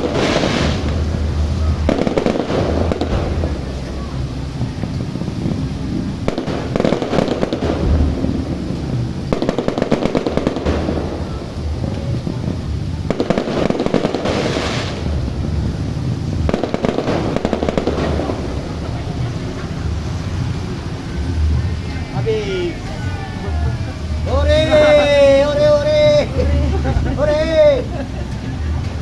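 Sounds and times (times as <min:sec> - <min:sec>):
fireworks crackling pops: 0:00.0 - 0:29.0.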